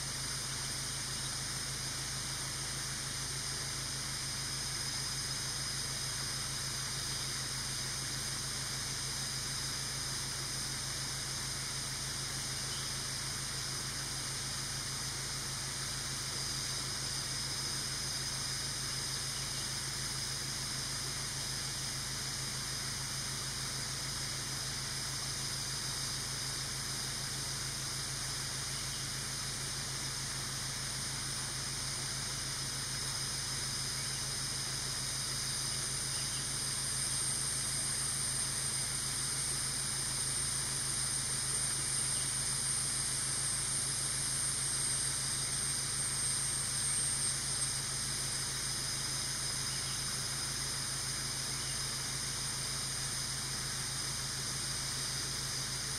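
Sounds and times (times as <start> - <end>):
high-pitched insect drone: 0.0 - 55.9
low steady hum: 0.0 - 55.9.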